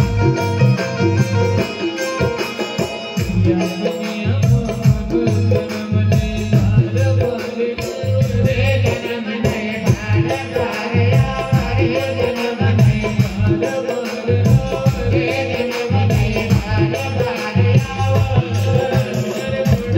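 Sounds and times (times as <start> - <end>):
devotional folk melody: 0.0 - 19.9
drum beat: 0.0 - 19.9.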